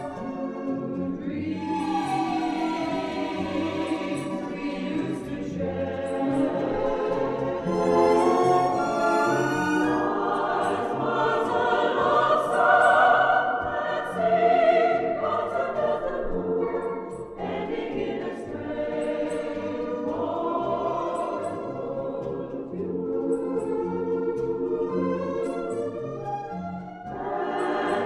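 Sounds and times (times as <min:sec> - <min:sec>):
choir singing: 0:00.0 - 0:28.0
orchestral accompaniment: 0:00.0 - 0:28.0.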